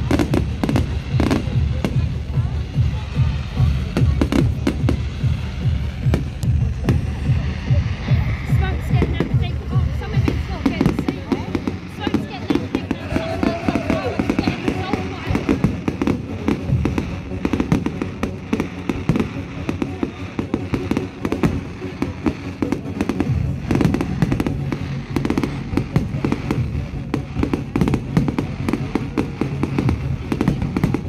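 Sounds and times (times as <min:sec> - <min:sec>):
fireworks bangs and crackles: 0:00.0 - 0:31.0
music playing: 0:00.0 - 0:31.0.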